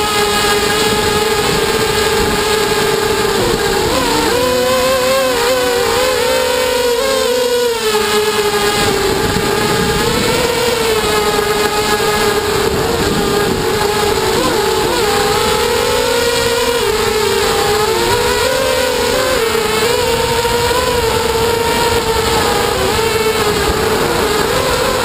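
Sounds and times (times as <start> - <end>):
drone motors and propellers whining: 0.0 - 25.0.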